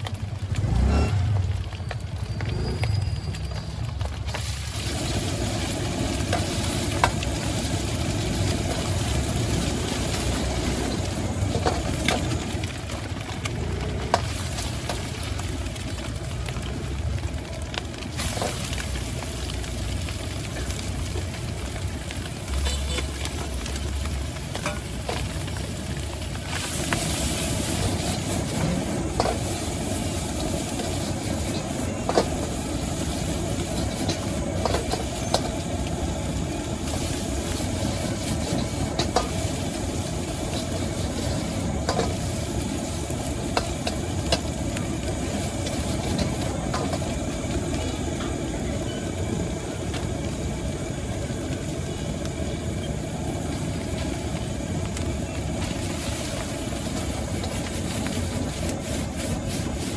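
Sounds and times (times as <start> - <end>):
food sizzling in a wok: 0.0 - 59.9.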